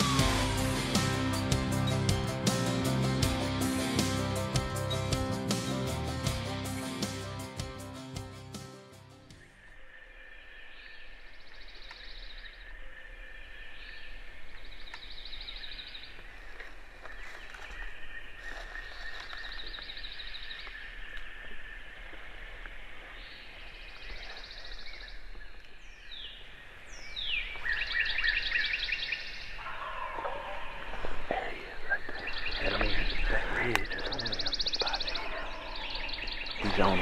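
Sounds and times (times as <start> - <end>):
background birds singing: 0.0 - 37.0.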